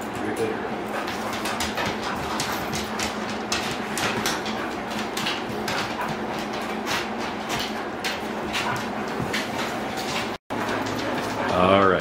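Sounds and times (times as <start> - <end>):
dog claws clicking on wood: 0.9 - 12.0
footsteps on plywood floor: 1.0 - 12.0.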